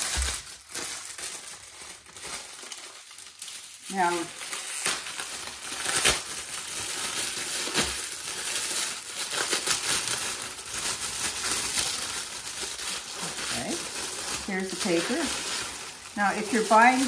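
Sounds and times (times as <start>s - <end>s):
foil wrapper crinkling: 0.0s - 17.0s.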